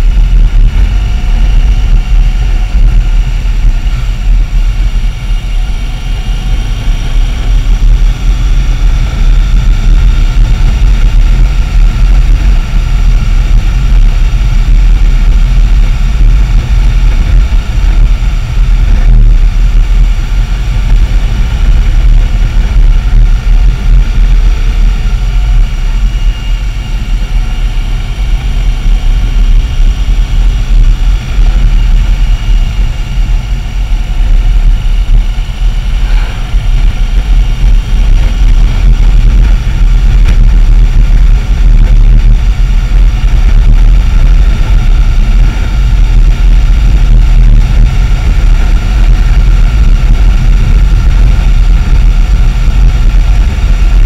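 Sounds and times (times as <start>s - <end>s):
motorcycle engine rumble: 0.0s - 54.0s.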